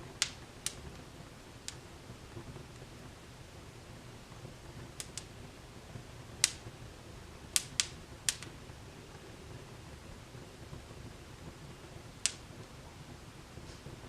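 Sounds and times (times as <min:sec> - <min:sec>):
low hiss of burning: 0:00.0 - 0:14.0
wood fire crackling and popping: 0:00.0 - 0:14.0.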